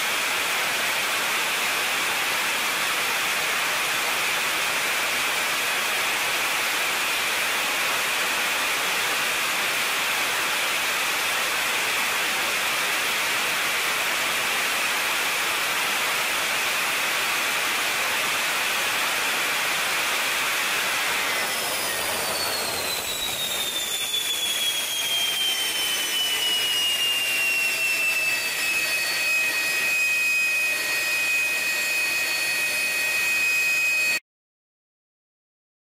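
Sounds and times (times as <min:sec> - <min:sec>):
jet engine roar: 0:00.0 - 0:34.2
jet engine whine: 0:00.0 - 0:34.2.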